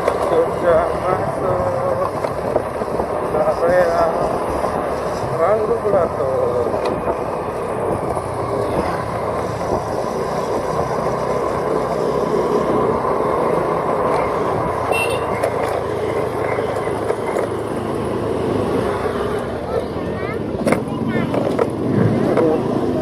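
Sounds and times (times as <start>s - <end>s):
vehicle road and engine noise: 0.0s - 23.0s.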